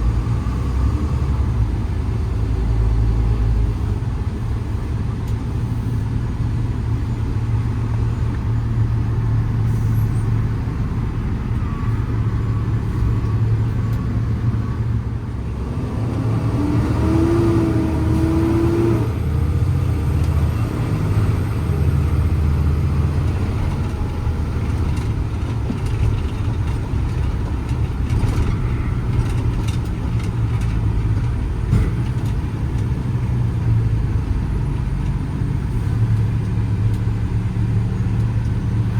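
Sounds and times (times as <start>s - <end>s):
truck diesel engine drone: 0.0s - 38.9s.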